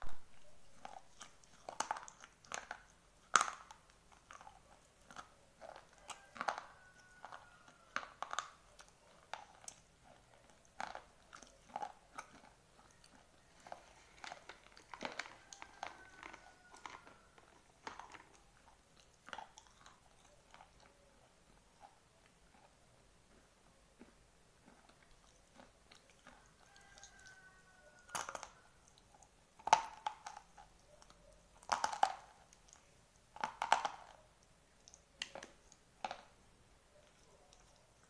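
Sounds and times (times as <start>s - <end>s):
chalky pencils being chewed: 0.3s - 38.0s.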